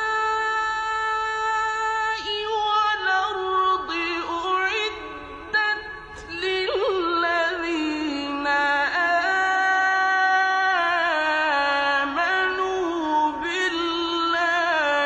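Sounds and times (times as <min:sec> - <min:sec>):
person chanting a recitation: 0:00.0 - 0:15.0.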